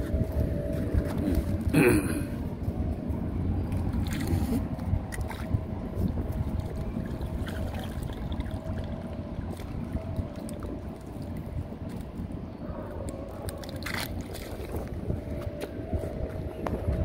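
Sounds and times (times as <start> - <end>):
water sloshing and trickling: 0.0 - 17.0
wind on microphone: 0.0 - 17.0.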